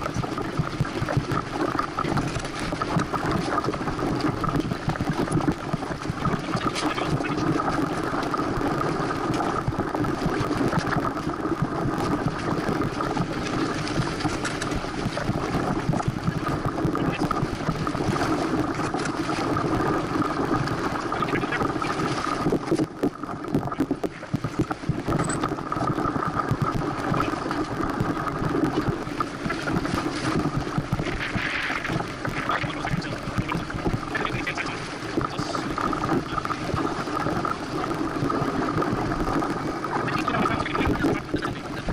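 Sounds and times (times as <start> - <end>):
water rushing past boat: 0.0 - 41.9
wind rushing: 0.0 - 41.9.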